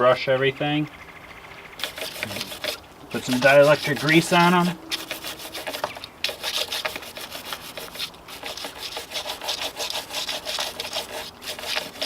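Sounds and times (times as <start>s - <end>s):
wire brush scrubbing metal: 1.8s - 12.0s.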